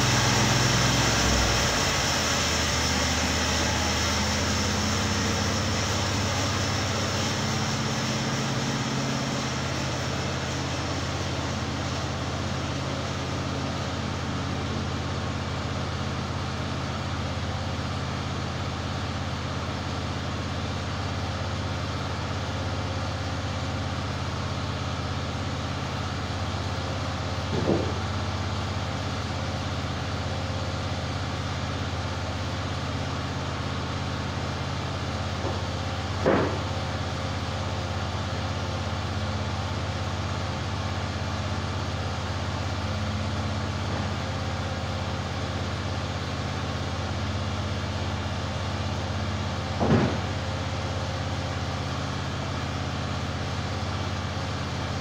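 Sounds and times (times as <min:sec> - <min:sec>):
sawmill engine idling: 0:00.0 - 0:55.0.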